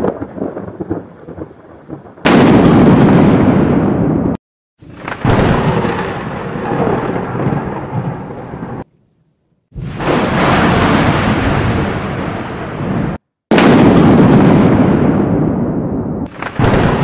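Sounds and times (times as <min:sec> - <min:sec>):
thunder crack: 0:00.0 - 0:08.8, 0:09.8 - 0:17.0
thunder rumble: 0:00.0 - 0:08.9, 0:09.8 - 0:17.0.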